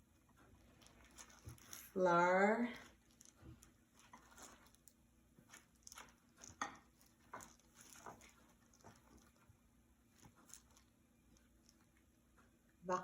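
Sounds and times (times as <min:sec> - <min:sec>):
chicken pressed in flour: 0:00.0 - 0:12.6.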